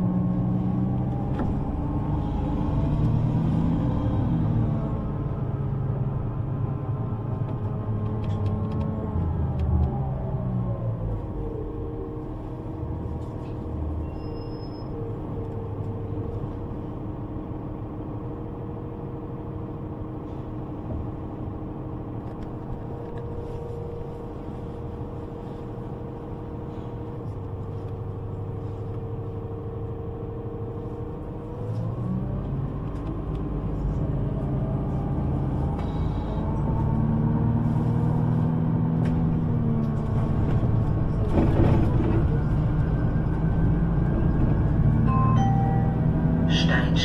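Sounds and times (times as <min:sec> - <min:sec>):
vehicle rumble: 0:00.0 - 0:47.0.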